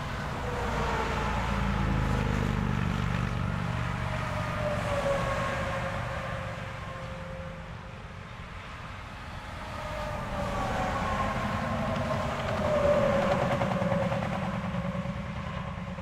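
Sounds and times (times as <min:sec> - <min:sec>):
distant traffic: 0:00.0 - 0:16.0
truck engine drone and tire whine: 0:00.0 - 0:16.0.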